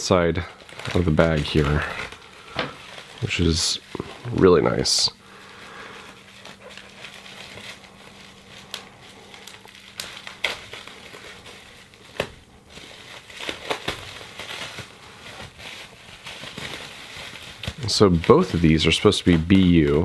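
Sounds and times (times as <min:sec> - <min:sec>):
plastic and tape crinkling: 0:00.0 - 0:20.0.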